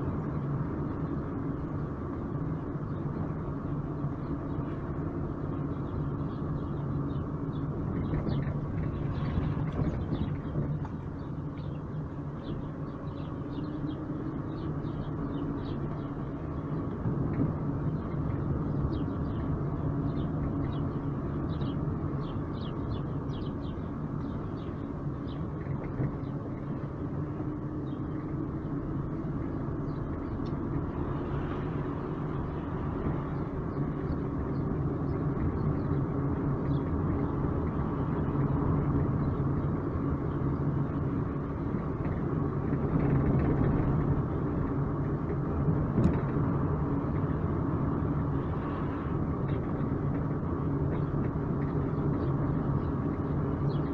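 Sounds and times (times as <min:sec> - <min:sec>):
road noise: 0:00.0 - 0:53.9
vehicle engine humming: 0:00.0 - 0:53.9.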